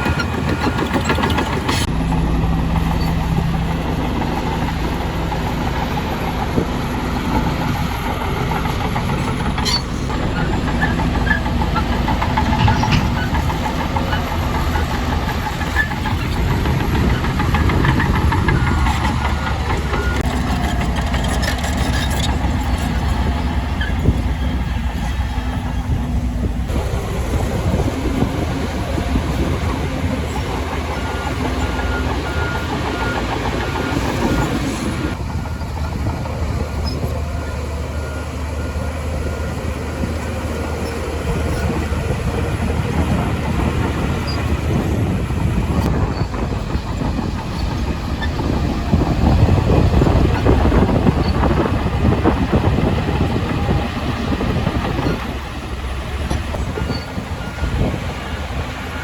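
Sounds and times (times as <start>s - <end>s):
bulldozer diesel engine under load: 0.0s - 59.0s
steel tracks clanking: 0.0s - 59.0s.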